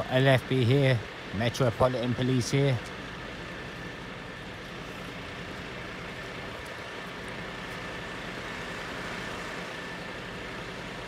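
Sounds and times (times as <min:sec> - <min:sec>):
thin steady whine: 0:00.0 - 0:11.0
vehicle engines idling: 0:00.0 - 0:11.0.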